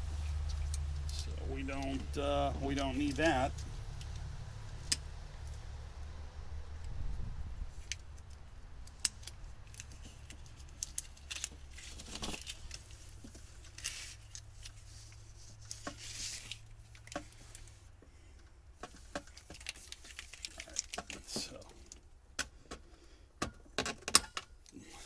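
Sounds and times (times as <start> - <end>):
wires rustling and scraping: 0.0 - 22.2.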